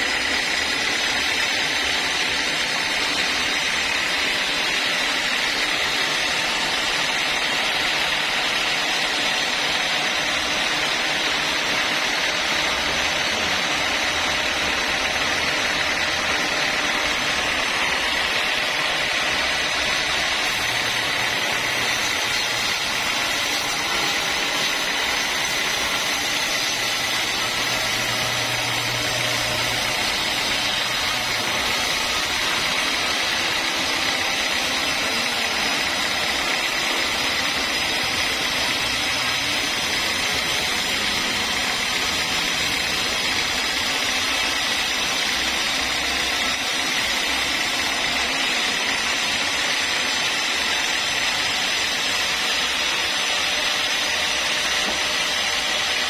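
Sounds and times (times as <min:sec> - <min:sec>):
log saw hissing and whining: 0:00.0 - 0:56.0.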